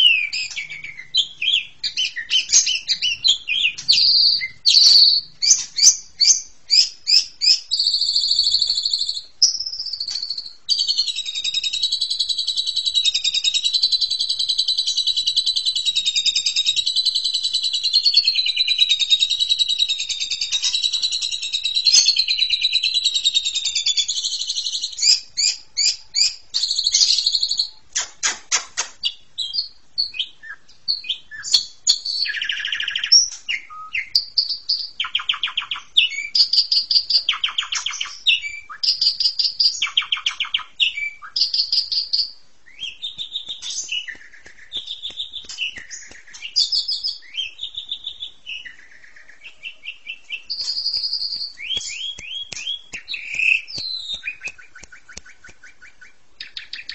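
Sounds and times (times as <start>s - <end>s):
starling singing: 0.0s - 27.8s, 29.0s - 56.9s.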